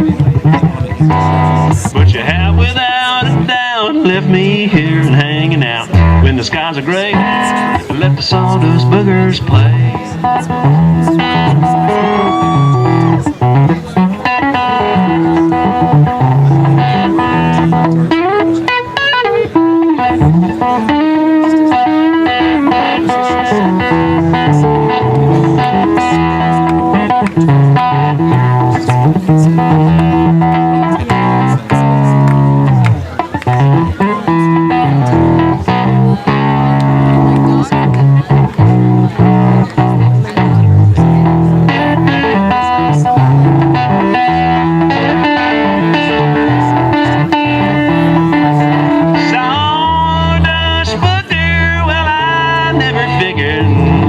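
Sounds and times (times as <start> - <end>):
bass line: 0.0 - 54.0
plucked string instrument: 0.0 - 54.0.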